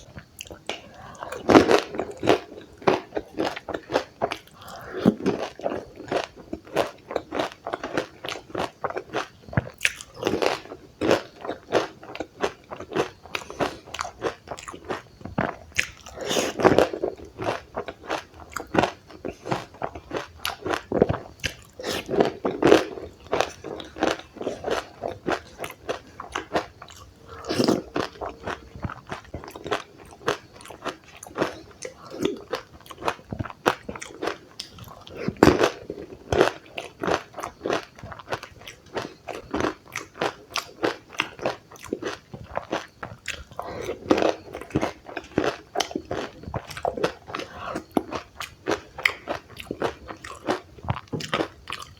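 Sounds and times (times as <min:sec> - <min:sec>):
crunching and chewing food: 0:00.0 - 0:51.9.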